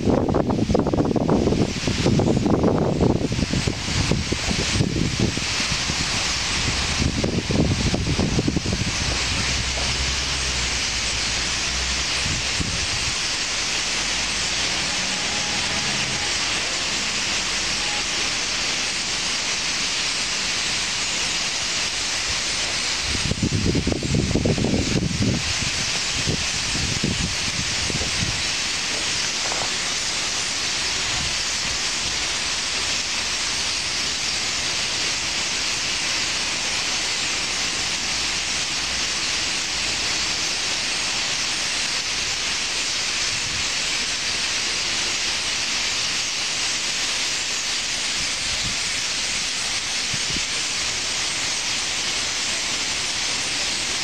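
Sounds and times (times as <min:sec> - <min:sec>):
flock of starlings calling: 0:00.9 - 0:54.0.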